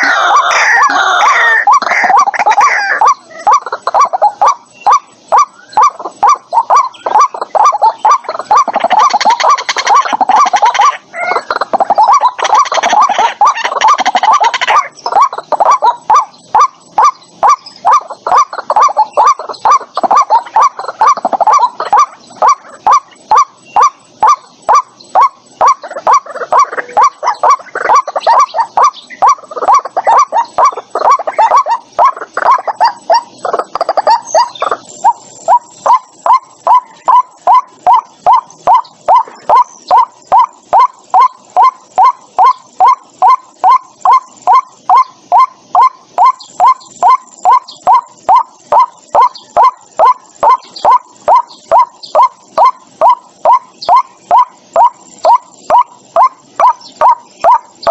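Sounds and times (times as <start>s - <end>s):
waterhen calling: 0.0s - 57.9s.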